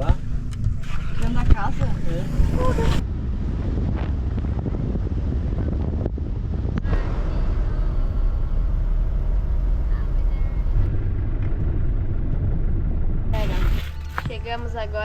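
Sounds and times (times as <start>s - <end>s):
motorhome driving on road: 0.0s - 15.0s.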